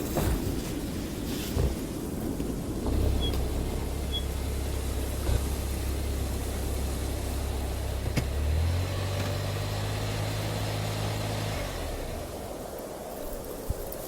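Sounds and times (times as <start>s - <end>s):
engine humming: 0.0s - 13.5s.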